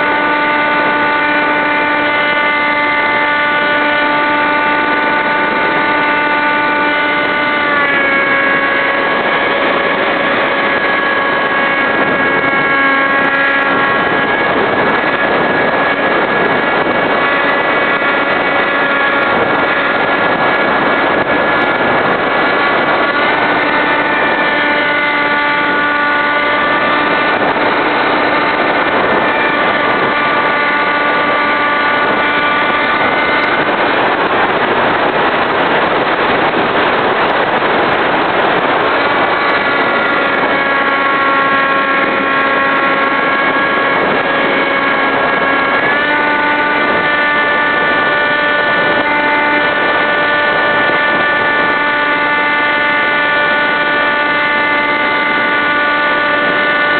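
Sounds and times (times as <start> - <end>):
electric motor and propeller whining: 0.0 - 56.9
rushing air noise: 0.0 - 56.9.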